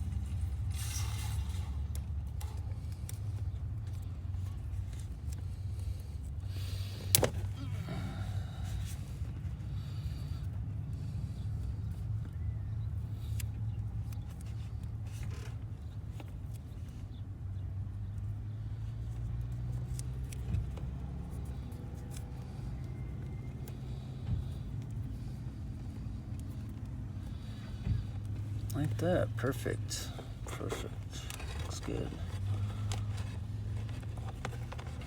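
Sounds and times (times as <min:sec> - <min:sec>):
engine idling drone: 0:00.0 - 0:15.5, 0:20.4 - 0:35.0.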